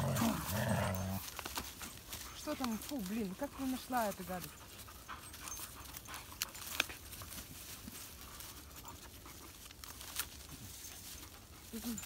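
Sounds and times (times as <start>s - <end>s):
dogs panting: 0.0s - 12.0s
rustling dry leaves: 0.0s - 12.0s.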